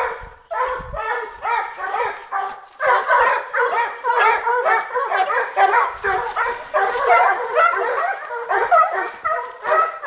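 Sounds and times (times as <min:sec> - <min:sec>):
hunting dogs baying: 0:00.0 - 0:10.0.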